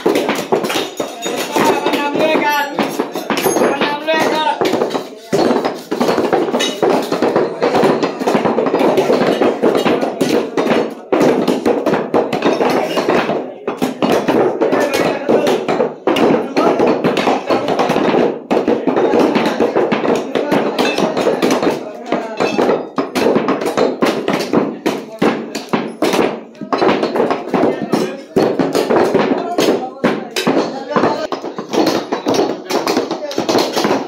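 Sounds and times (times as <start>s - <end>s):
cleavers chopping meat on wood: 0.0s - 34.0s.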